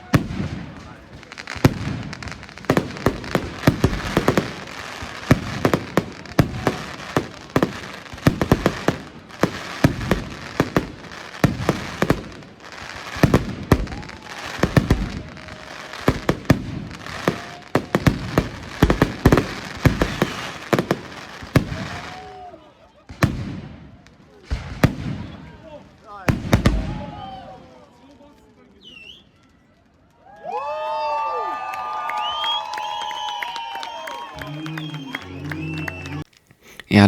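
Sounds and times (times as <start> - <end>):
faint fireworks whistles: 0.0 - 30.4, 31.8 - 36.3
fireworks bursts and crackling: 0.0 - 37.0.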